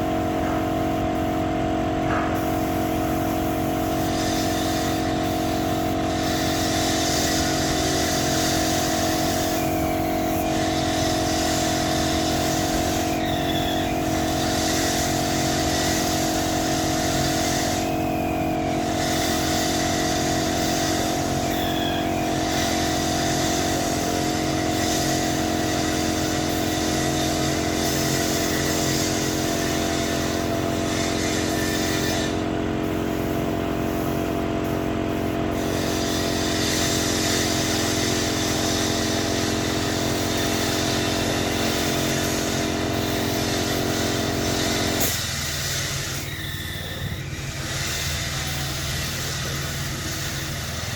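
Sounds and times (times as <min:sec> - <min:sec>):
motor humming: 0:00.0 - 0:50.9
hiss: 0:02.3 - 0:50.9.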